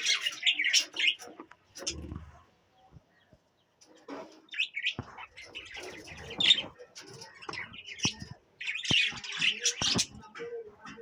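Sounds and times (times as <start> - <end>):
budgies chirping: 0.0 - 11.0.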